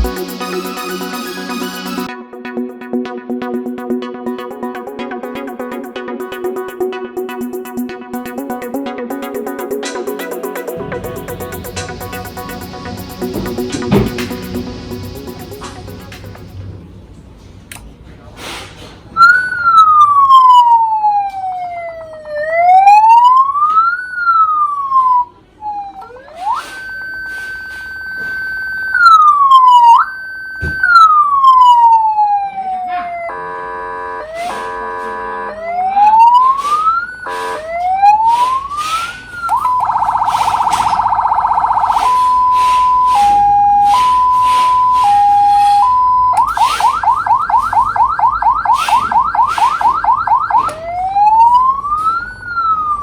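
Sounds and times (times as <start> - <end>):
electronic siren cycling tones: 0.0 - 16.9, 19.2 - 53.0.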